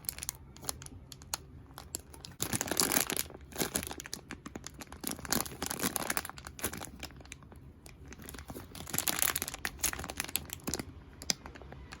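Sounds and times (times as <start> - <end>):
crinkly plastic packaging crackling: 0.0 - 12.0.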